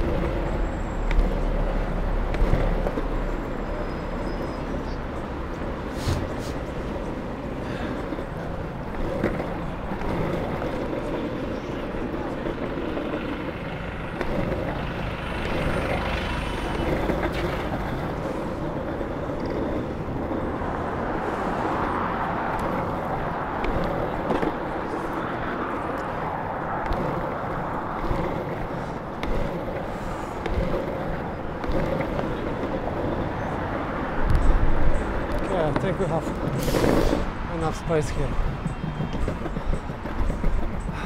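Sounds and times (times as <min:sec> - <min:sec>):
skateboard wheels rolling on asphalt: 0:00.0 - 0:41.0
street traffic: 0:00.0 - 0:41.0.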